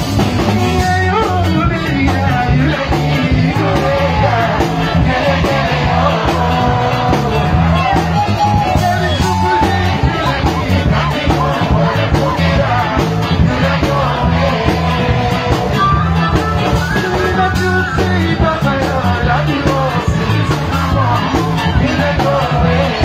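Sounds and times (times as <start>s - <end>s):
live music with singing: 0.0s - 23.0s
repeating bass line: 0.0s - 23.0s.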